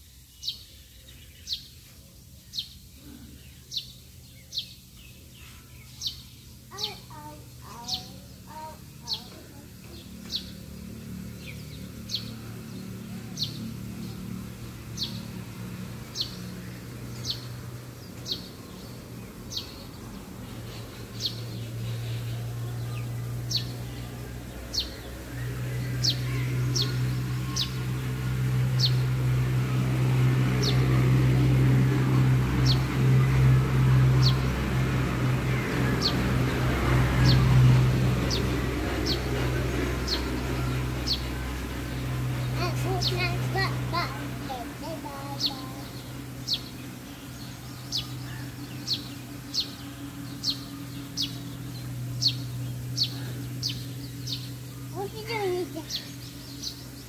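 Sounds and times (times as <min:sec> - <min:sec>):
bird chirping: 0:00.0 - 0:57.0
low hum: 0:07.2 - 0:57.0.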